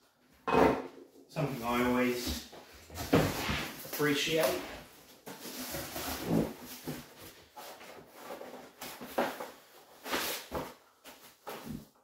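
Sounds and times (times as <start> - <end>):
cardboard and foam rustling: 1.4 - 12.0.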